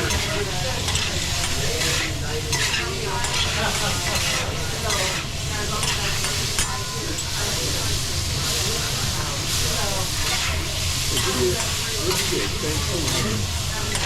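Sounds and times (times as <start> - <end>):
metal spatula scraping hot plate: 0.0 - 7.4, 9.5 - 14.0
food sizzling on a griddle: 0.0 - 14.0.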